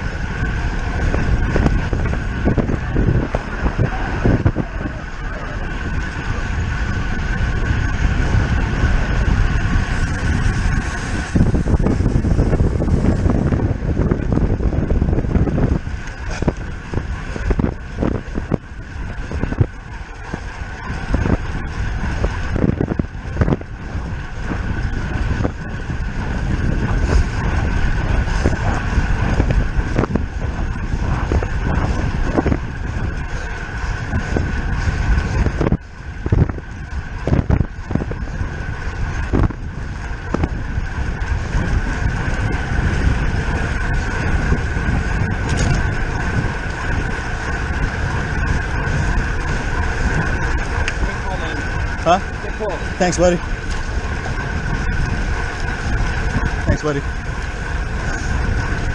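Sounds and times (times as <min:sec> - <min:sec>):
steady high whir: 0:00.0 - 0:58.9
wind buffeting microphone: 0:00.0 - 0:58.9.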